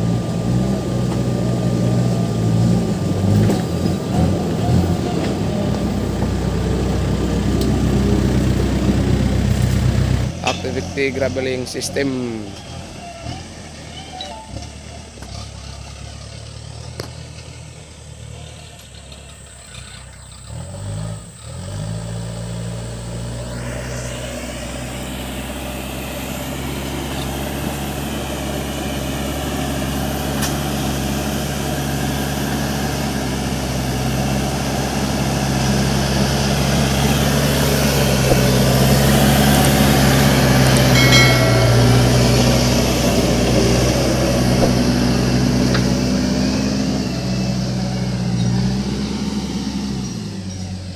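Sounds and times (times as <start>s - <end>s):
backhoe diesel engine revving: 0.0s - 41.0s, 42.3s - 50.9s.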